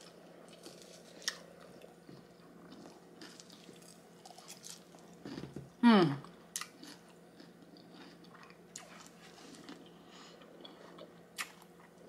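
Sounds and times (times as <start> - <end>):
person chewing food: 0.0 - 5.7, 6.5 - 12.0.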